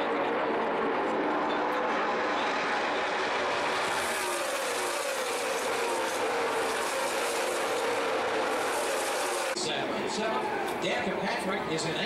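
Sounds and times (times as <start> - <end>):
race car engines passing by: 0.0 - 12.0.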